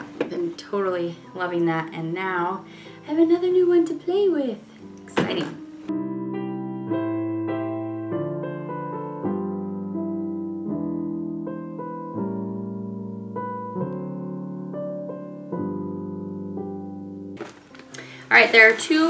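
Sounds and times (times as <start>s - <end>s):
slow solo piano: 0.0s - 18.8s.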